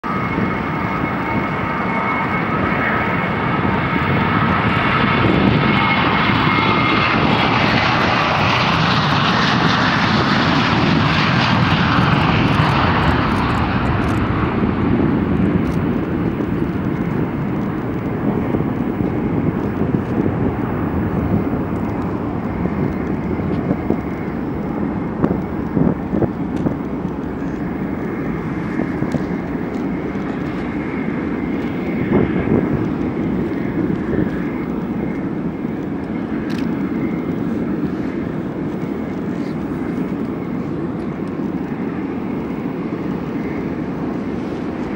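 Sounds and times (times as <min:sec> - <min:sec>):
jet engines at takeoff: 0:00.0 - 0:44.9
whine of fan tones: 0:00.0 - 0:44.9.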